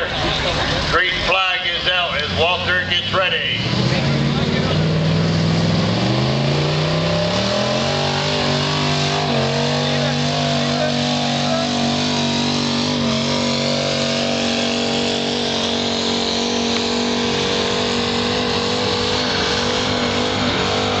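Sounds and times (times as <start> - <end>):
engine at high revs: 0.0 - 21.0.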